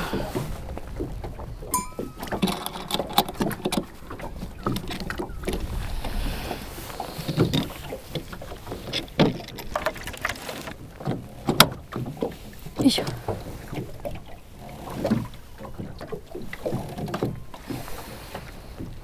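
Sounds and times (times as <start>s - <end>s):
rumble of wind and water: 0.0s - 19.0s.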